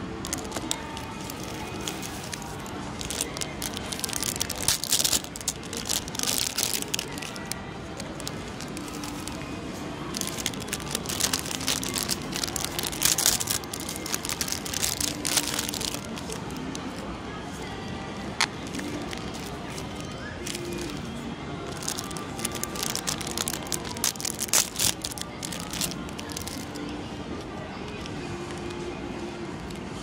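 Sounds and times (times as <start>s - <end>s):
plastic wrappers crinkling: 0.0s - 9.4s, 10.0s - 17.0s, 18.6s - 21.1s, 21.7s - 26.8s
faint background music: 0.0s - 30.0s.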